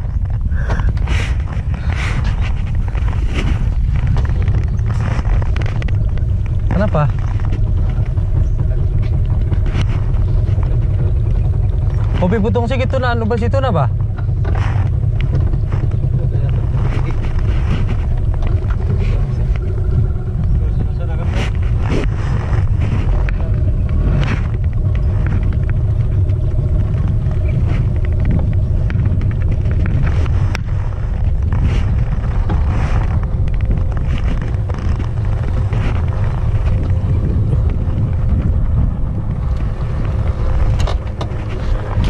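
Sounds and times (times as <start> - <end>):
loud low rumble: 0.0 - 42.0.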